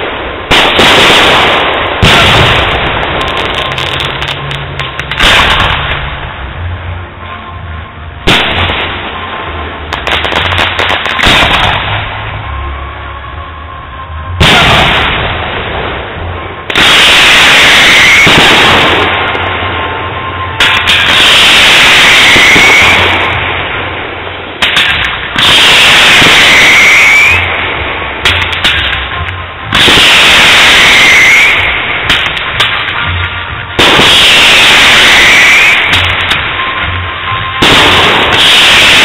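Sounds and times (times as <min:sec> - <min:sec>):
firework bang: 0:00.0 - 0:06.8, 0:08.2 - 0:12.4, 0:14.4 - 0:39.0
fireworks crackling and hissing: 0:00.0 - 0:39.0
rising firework whistle: 0:00.0 - 0:39.0.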